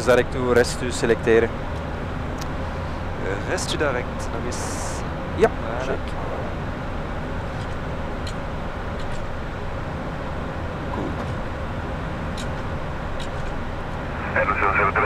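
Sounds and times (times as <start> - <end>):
rushing airliner cockpit noise: 0.0 - 15.0.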